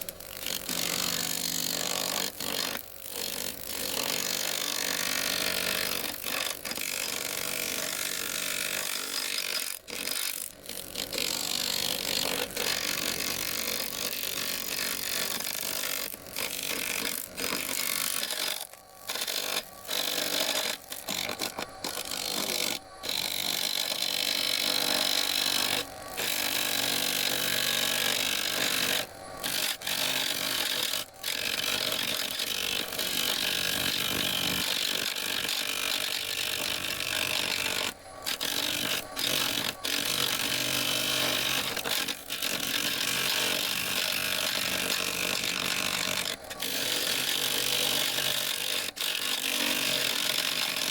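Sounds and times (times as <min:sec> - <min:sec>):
woodworking lathe spinning: 0:07.3 - 0:50.9.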